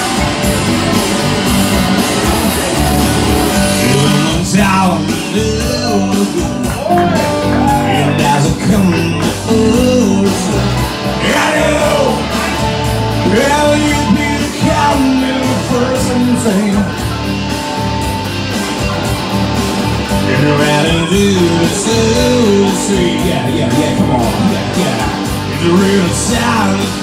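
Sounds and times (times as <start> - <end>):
man singing rock song: 0.0 - 17.9, 20.0 - 27.0
electric guitar: 0.0 - 27.0.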